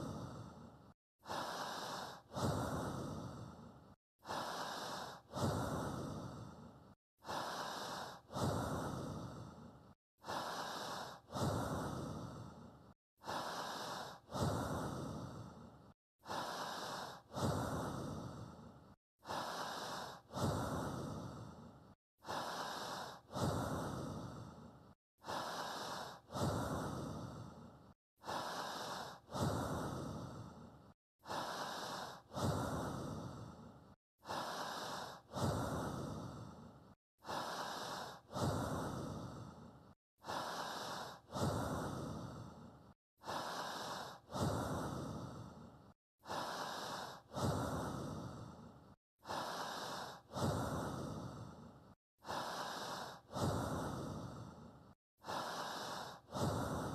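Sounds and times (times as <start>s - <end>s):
person breathing in and out: 0.0s - 56.9s.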